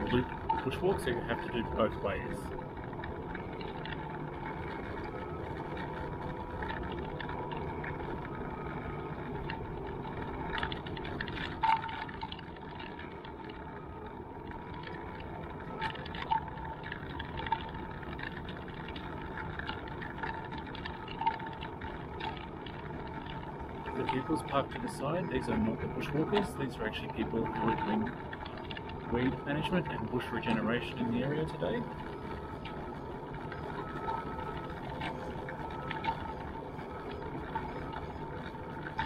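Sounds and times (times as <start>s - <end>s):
faint constant tone: 0.0s - 39.0s
outdoor background rumble: 0.0s - 39.0s.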